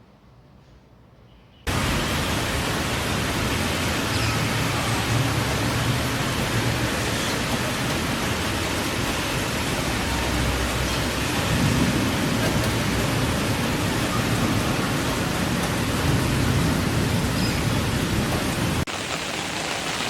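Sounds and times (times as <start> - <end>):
rain falling: 1.7 - 20.0.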